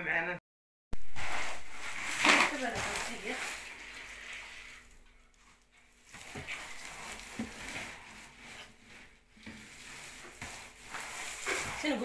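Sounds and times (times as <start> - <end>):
mopping rustling and scuffing: 1.0 - 12.0.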